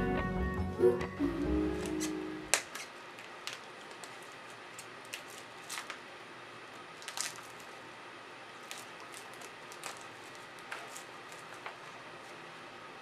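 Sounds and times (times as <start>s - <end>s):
plastic packaging crinkling: 1.8s - 12.4s.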